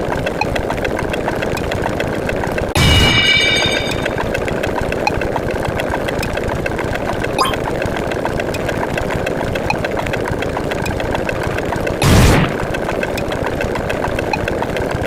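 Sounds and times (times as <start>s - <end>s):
rapid electronic ticks: 0.0s - 2.8s, 4.1s - 15.0s.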